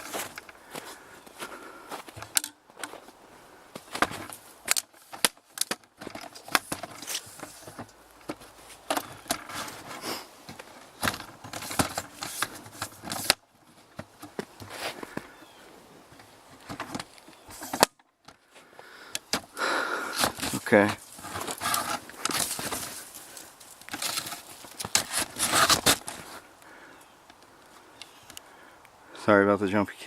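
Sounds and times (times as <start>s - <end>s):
crunching footsteps: 0.0s - 28.4s.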